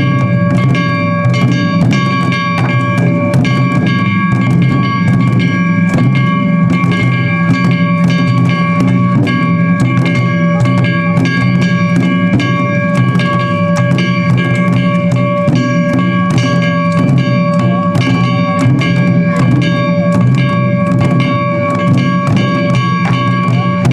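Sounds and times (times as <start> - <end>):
taiko drumming: 0.0 - 23.9.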